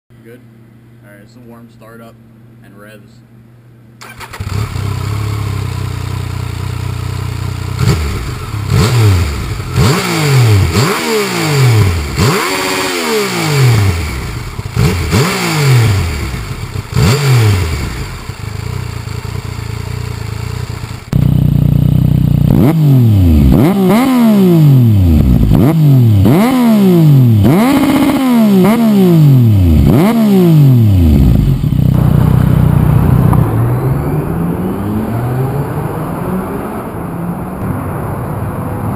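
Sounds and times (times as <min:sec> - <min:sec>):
motorcycle engine idling and revving: 0:04.0 - 0:38.9.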